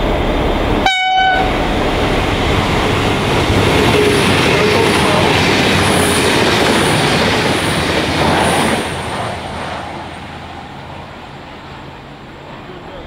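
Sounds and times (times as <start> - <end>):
train rushing past: 0.0 - 13.0.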